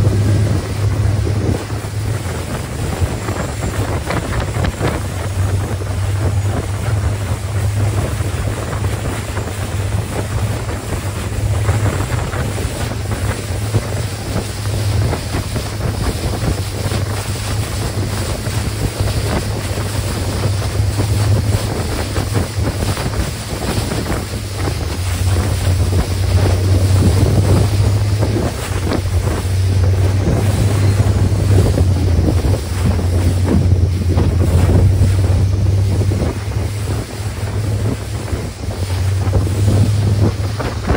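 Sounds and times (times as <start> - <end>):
boat engine running: 0.0 - 40.9
water spray splashing: 0.0 - 40.9
wind buffeting microphone: 0.0 - 40.9.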